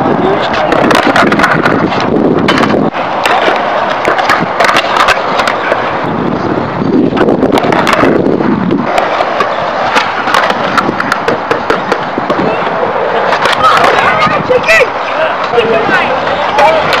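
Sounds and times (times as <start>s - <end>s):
skateboard wheels rolling on concrete: 0.0s - 17.0s
skateboard wooden clacks: 0.2s - 6.1s, 7.0s - 17.0s.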